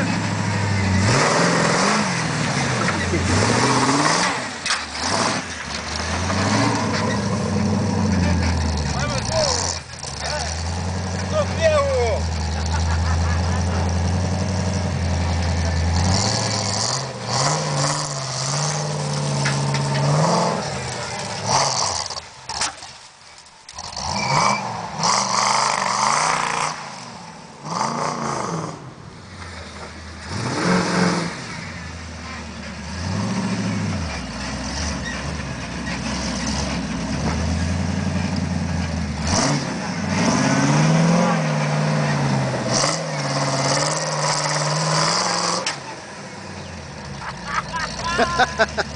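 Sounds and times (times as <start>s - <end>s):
engine revving: 0.0s - 22.8s, 23.7s - 48.9s.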